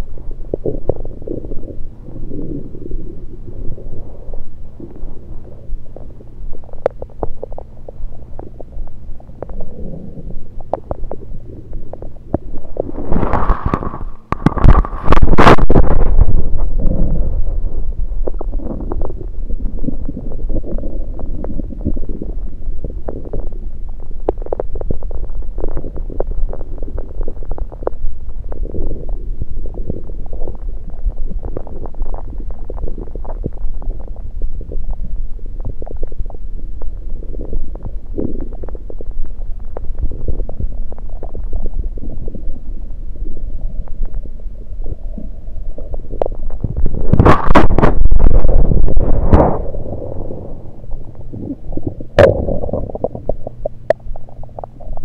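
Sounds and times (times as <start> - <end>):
stomach gurgling: 0.0 - 55.0.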